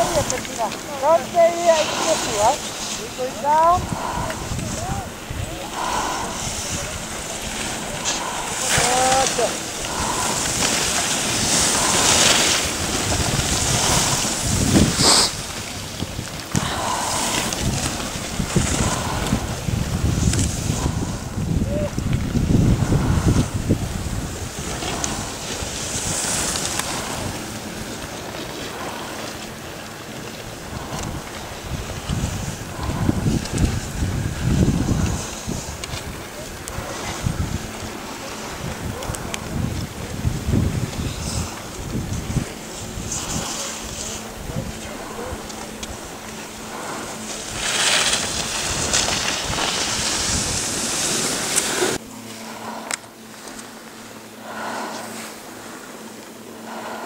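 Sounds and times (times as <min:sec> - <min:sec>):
wind on microphone: 0:00.0 - 0:53.3.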